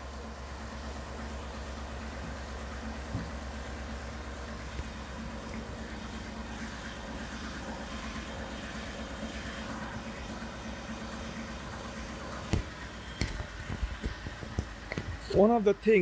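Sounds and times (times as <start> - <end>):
engine idling with low rumble: 0.0 - 16.0.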